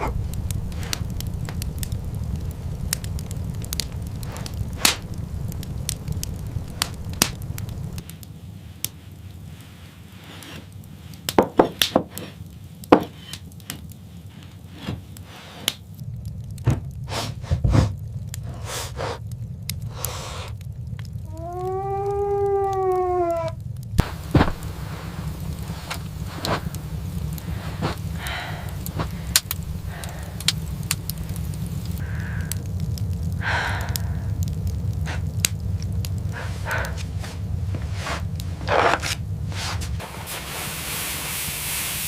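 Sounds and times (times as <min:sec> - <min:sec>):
sharp cracks and knocks: 0:00.0 - 0:08.2, 0:10.3 - 0:18.5, 0:19.7 - 0:33.2, 0:33.9 - 0:40.0
steady low rumble: 0:00.0 - 0:42.0.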